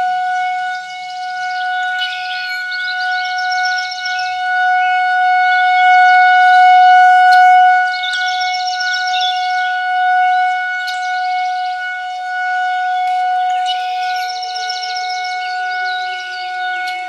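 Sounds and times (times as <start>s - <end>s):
synthesized warning siren tone: 0.0s - 17.0s
birds chirping: 0.6s - 17.0s.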